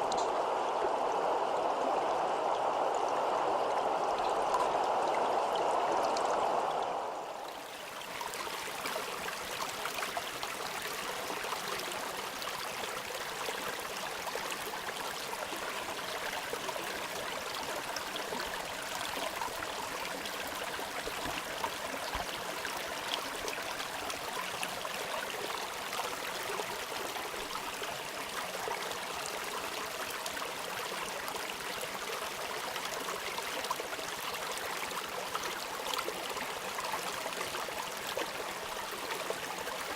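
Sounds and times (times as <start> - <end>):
rush of water: 0.0 - 39.9
stream trickling and babbling: 0.0 - 39.9.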